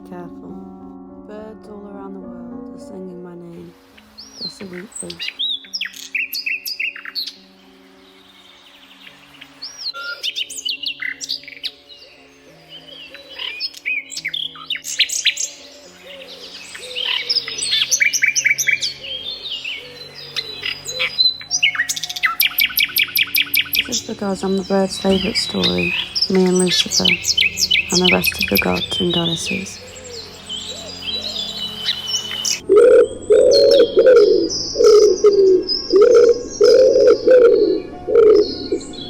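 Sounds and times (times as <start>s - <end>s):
songbirds chirping and singing: 3.8s - 39.0s.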